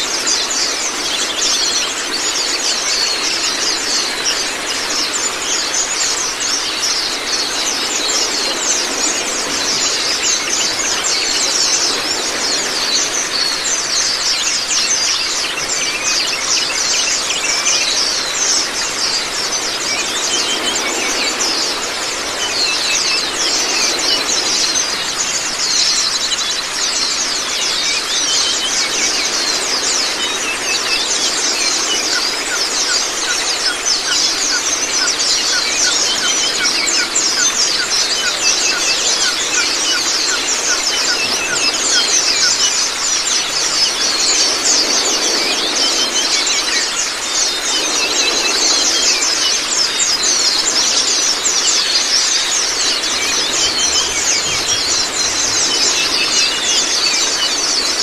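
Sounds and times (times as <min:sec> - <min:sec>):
birds twittering: 0:00.0 - 0:58.0
running water: 0:00.0 - 0:58.0.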